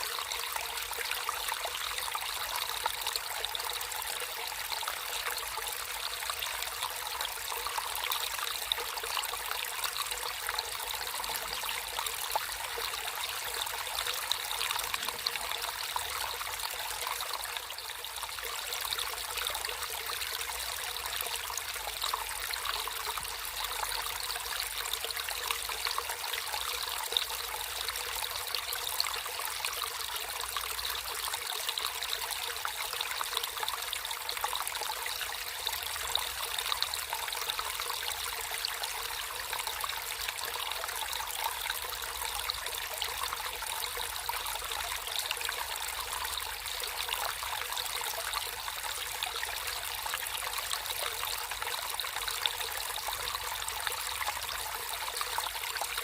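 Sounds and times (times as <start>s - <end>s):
stream water trickling and splashing: 0.0s - 56.0s.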